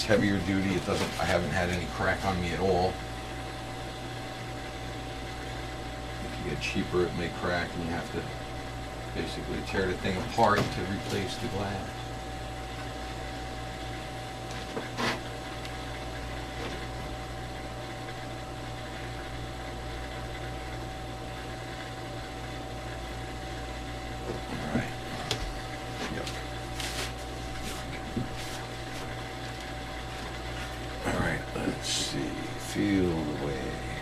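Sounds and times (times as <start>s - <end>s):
workshop hum: 0.0s - 34.0s.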